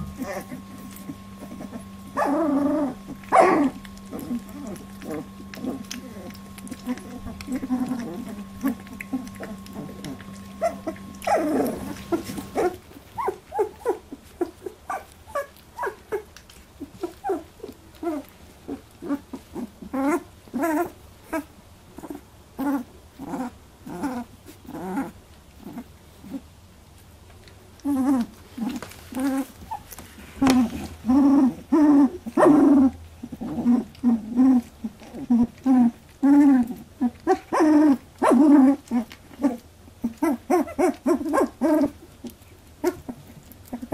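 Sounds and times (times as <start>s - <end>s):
puppies whining and squeaking: 0.0s - 26.4s, 27.8s - 43.9s.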